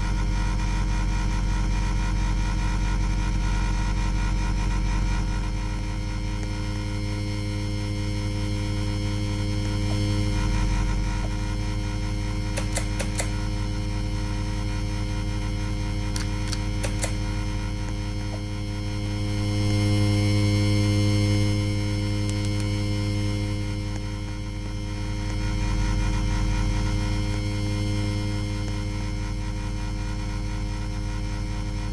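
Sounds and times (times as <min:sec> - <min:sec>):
ceiling fan motor humming: 0:00.0 - 0:31.9.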